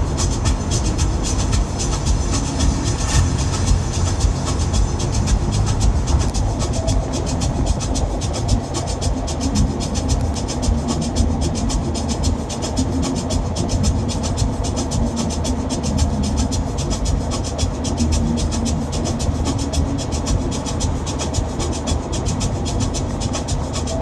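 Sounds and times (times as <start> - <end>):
fast even ticking: 0.0 - 24.0
van engine and road rumble: 0.0 - 24.0.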